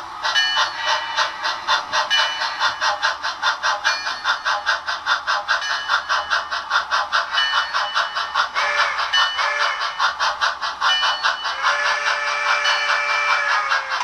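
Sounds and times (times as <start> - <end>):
steam locomotive exhaust chuffs: 0.0 - 14.0.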